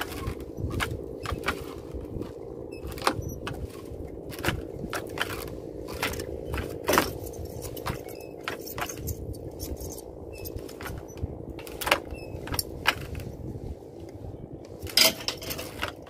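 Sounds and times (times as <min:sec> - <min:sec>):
clicks and rattles: 0:00.0 - 0:13.3, 0:14.8 - 0:16.0
low hum: 0:00.0 - 0:16.0.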